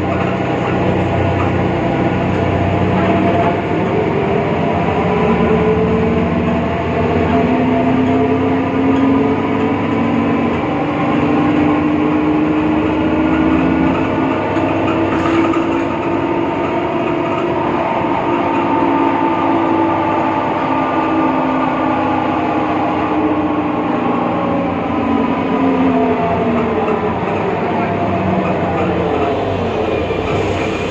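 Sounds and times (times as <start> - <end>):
bus diesel engine running: 0.0 - 30.9.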